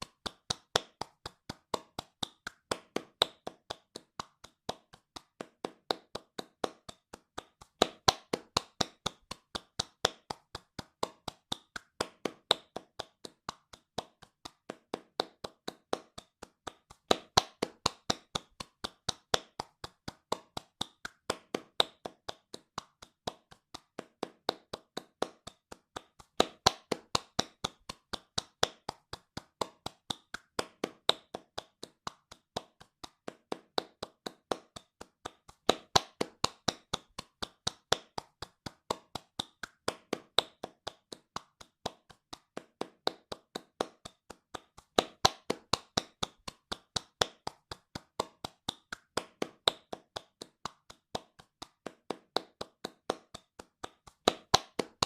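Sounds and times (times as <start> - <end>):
hands clapping fast: 0.0 - 55.0.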